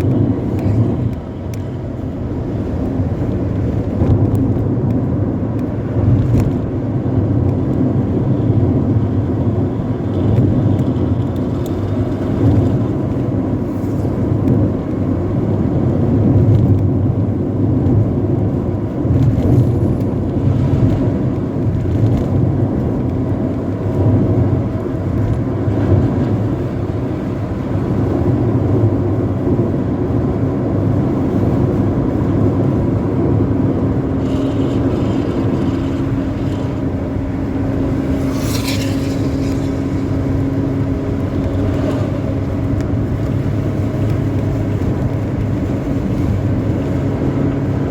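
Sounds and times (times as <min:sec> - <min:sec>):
bus exhaust growling rumble: 0:00.0 - 0:47.9.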